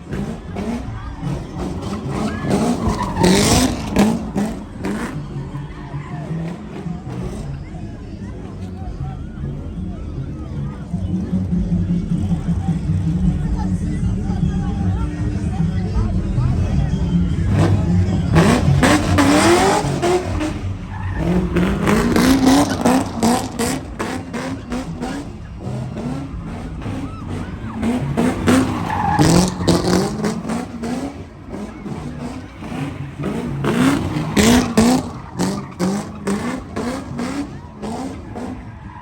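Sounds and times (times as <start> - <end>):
tire squeal: 0.0 - 39.0
vehicle engine revving: 0.0 - 39.0.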